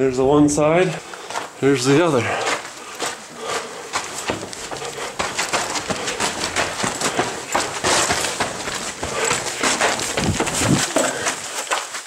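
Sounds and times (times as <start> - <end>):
footsteps on pebbly ground: 0.0 - 12.0.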